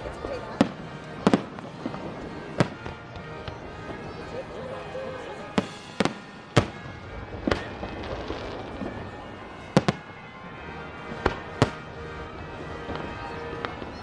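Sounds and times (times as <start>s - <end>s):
continuous background din: 0.0s - 14.0s
fireworks bangs: 0.0s - 14.0s.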